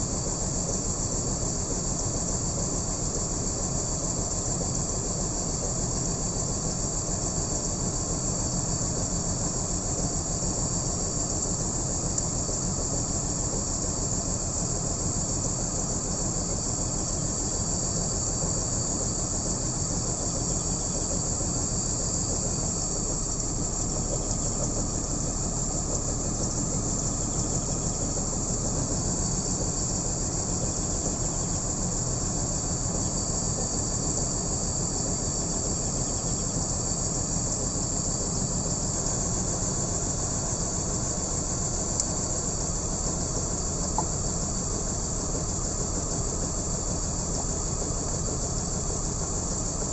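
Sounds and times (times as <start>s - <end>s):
car engine idling roughly: 0.0s - 49.9s
high-pitched hiss: 0.0s - 49.9s.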